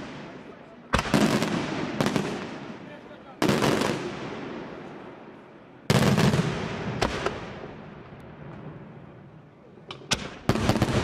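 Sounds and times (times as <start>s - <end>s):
fireworks bangs: 0.0s - 9.0s, 9.9s - 11.0s
fireworks crackling: 0.0s - 11.0s.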